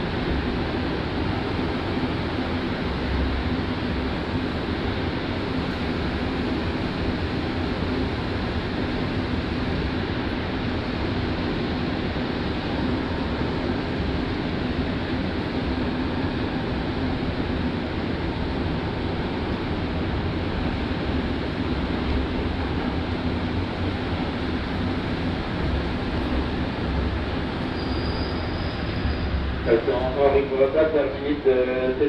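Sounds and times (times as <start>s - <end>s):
subway train rumbling in tunnel: 0.0s - 32.0s.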